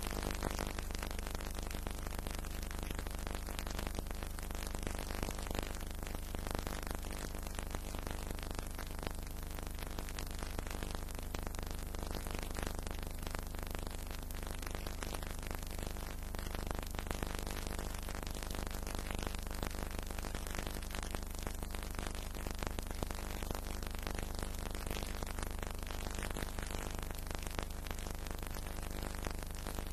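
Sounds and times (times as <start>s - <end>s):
film surface hiss and crackle: 0.0s - 29.9s.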